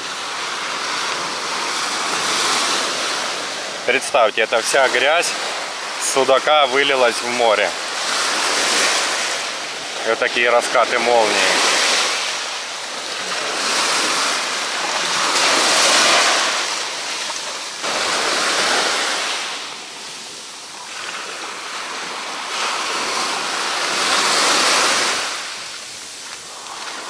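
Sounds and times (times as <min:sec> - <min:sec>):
waves breaking on a beach: 0:00.0 - 0:27.0
wind: 0:00.0 - 0:27.0.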